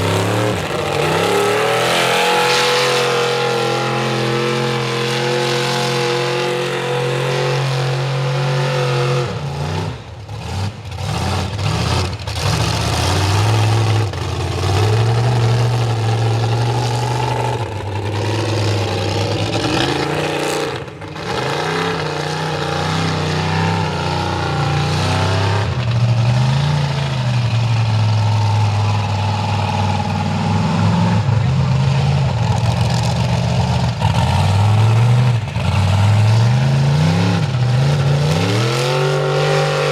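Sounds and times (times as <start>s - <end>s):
truck engine revving under load: 0.0s - 39.9s.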